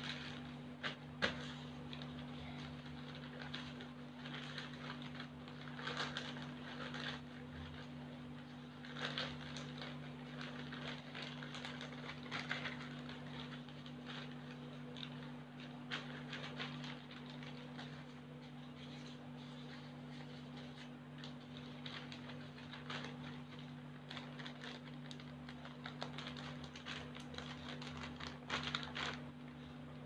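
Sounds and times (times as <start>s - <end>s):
paper and plastic bag rustling: 0.0s - 29.8s.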